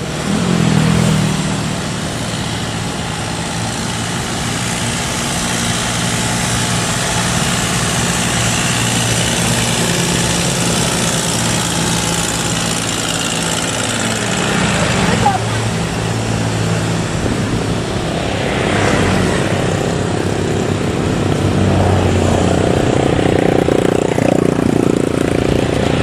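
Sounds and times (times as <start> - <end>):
boat engines humming: 0.0 - 26.0.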